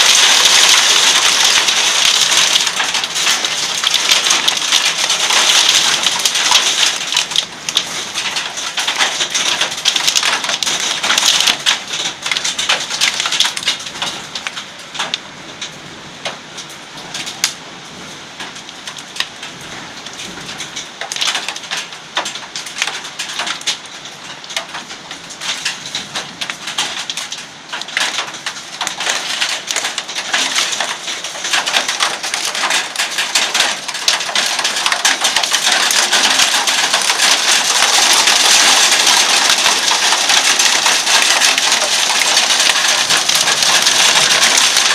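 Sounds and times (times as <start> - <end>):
raindrops ticking: 0.0 - 17.6, 18.3 - 44.9
heavy rain pouring: 0.0 - 44.9.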